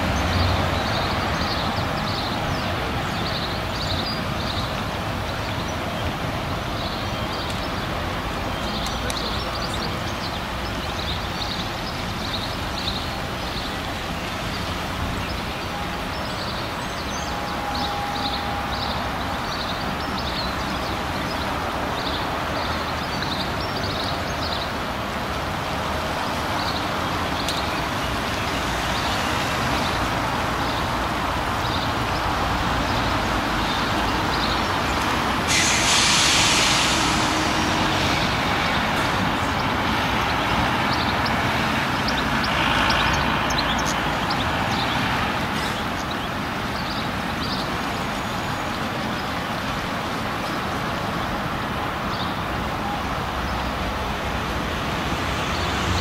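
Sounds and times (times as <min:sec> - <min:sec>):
diesel railcar running: 0:00.0 - 0:56.0.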